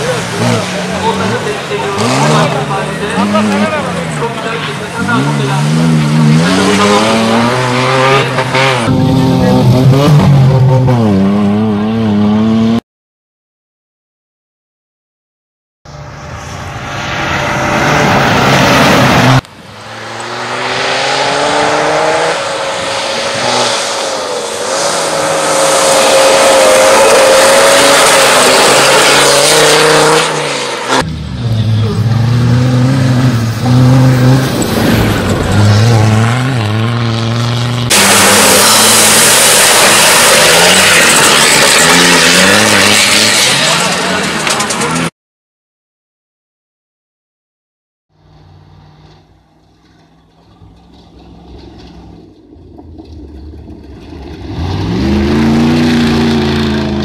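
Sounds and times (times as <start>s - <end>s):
race car engine revving: 0.0s - 12.8s, 16.4s - 45.1s, 50.9s - 57.0s.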